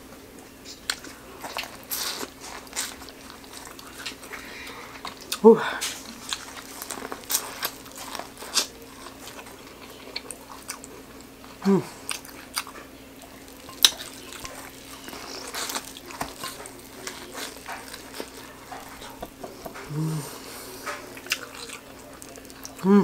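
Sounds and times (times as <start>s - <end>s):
chewing corn on the cob: 0.7s - 23.0s.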